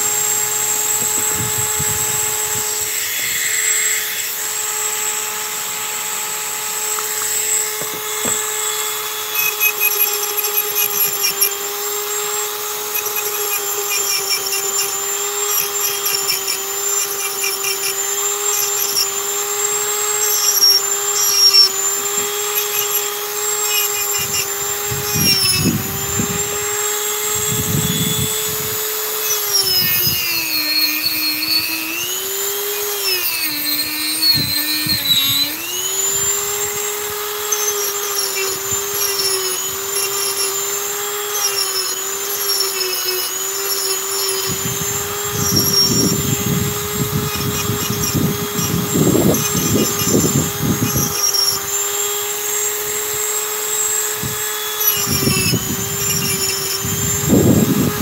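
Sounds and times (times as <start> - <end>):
rotary tool carving wood: 0.0 - 58.0.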